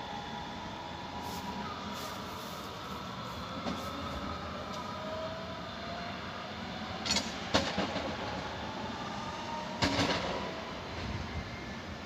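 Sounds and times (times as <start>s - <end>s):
electric train hum and rumble: 0.0s - 12.0s.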